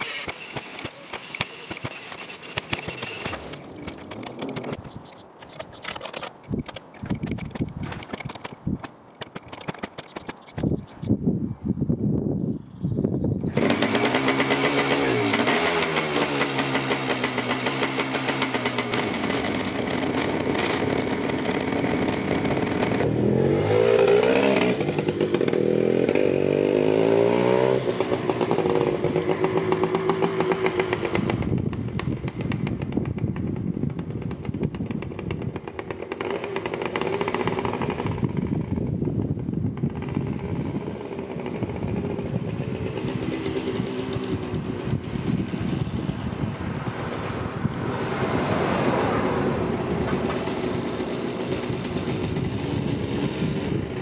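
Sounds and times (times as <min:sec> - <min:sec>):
two-stroke motorcycle engine revving: 0:00.0 - 0:04.8, 0:13.4 - 0:39.0, 0:39.8 - 0:46.6, 0:47.7 - 0:54.0.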